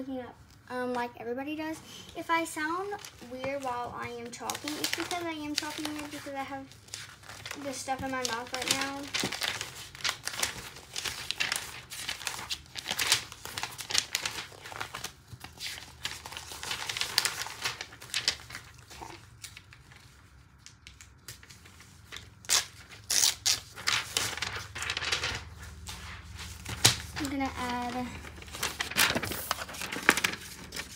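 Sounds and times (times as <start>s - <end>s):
paper rustling and crinkling: 2.6s - 30.9s.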